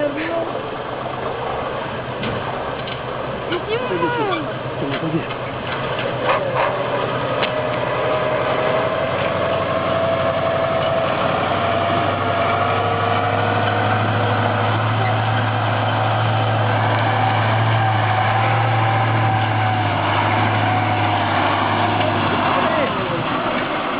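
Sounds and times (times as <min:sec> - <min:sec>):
deep drone: 0:00.0 - 0:23.9
high engine whine: 0:00.0 - 0:23.9
truck engine running: 0:00.0 - 0:23.9.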